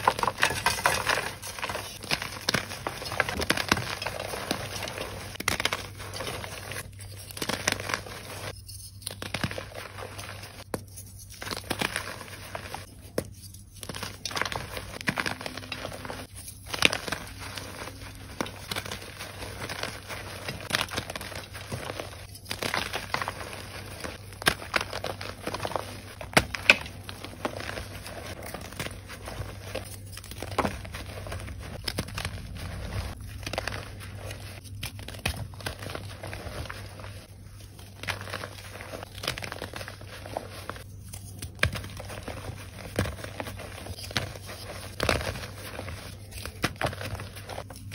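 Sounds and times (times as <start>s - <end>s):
chalk crunching and crumbling: 0.0s - 47.9s.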